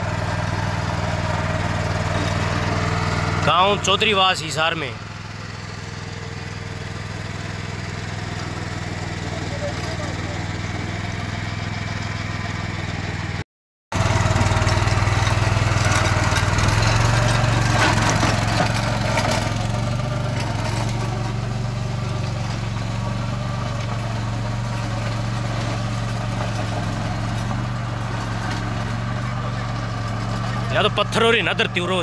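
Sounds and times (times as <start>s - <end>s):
rotavator tilling dry soil: 0.0s - 32.0s
tractor diesel engine running: 0.0s - 32.0s.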